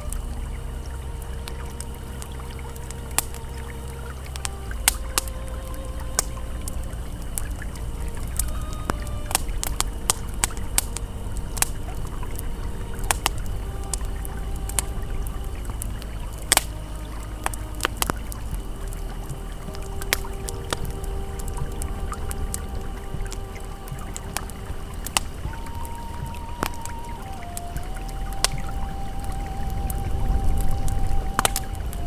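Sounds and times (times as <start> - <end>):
ambient music tones: 0.0 - 32.0
campfire crackling and popping: 0.0 - 32.0
river flowing: 0.0 - 32.0.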